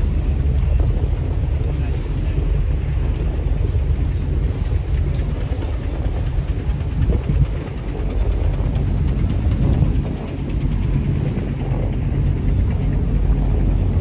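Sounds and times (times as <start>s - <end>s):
boat engine drone: 0.0s - 14.0s
water and hull noise: 0.0s - 14.0s.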